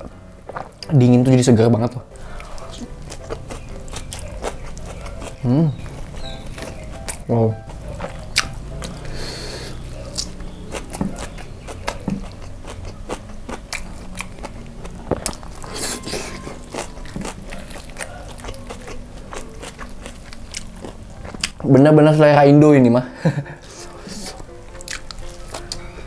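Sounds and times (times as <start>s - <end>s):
chewing crispy chicken: 2.1s - 22.2s, 23.3s - 26.0s.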